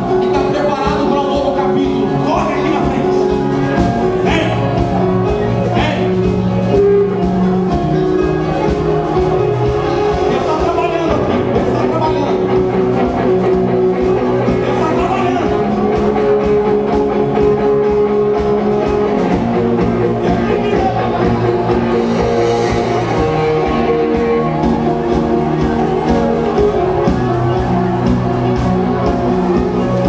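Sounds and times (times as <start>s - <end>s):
live band held chords: 0.0s - 30.0s
steady drum beat: 0.0s - 30.0s.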